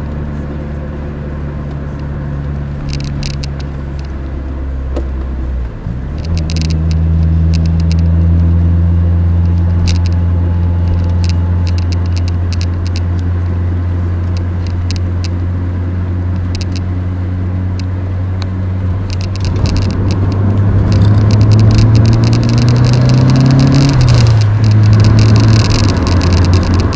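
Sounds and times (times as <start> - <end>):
car engine droning in cabin: 0.0 - 26.9
sharp clicks and rattles: 1.6 - 4.4, 5.0 - 8.6, 9.2 - 15.6, 16.2 - 17.0, 17.7 - 26.9.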